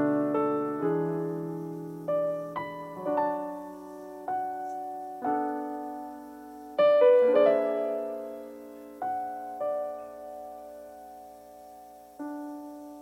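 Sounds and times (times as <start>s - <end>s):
slow gentle piano chords: 0.0s - 13.0s.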